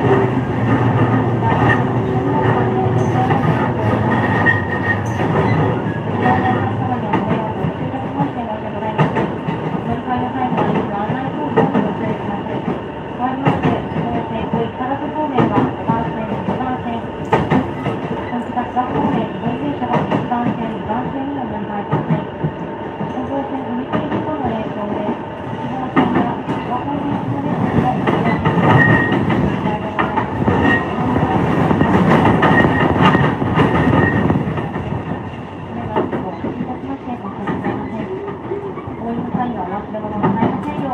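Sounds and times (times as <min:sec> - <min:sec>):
train running rumble: 0:00.0 - 0:40.9.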